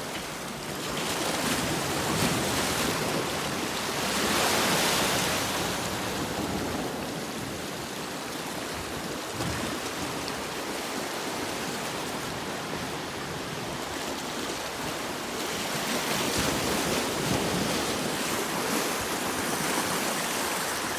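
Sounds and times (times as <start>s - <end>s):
ocean waves washing on shore: 0.0s - 20.9s.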